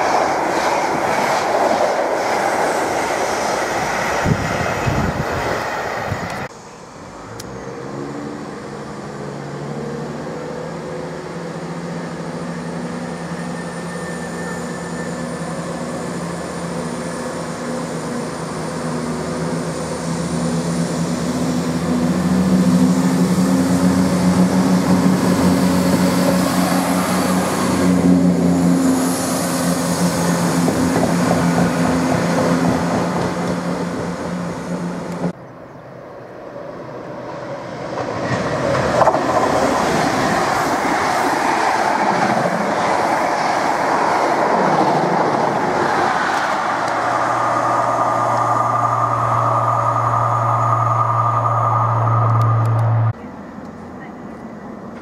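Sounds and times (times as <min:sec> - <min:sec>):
diesel train engines droning: 0:00.0 - 0:55.0
wheels rumbling on rail: 0:00.0 - 0:55.0.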